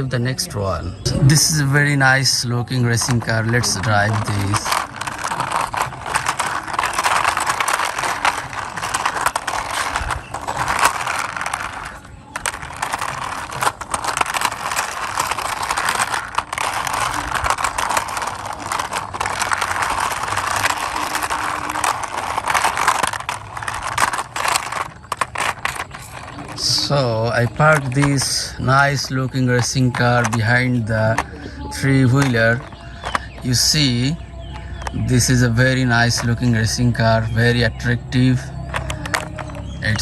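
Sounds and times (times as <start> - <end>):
toy car wheels scraping on wall: 1.4 - 40.0.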